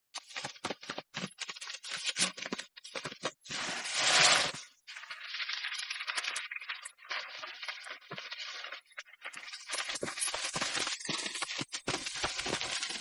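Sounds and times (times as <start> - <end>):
dry scratchy rustling and crackling: 0.2 - 13.0.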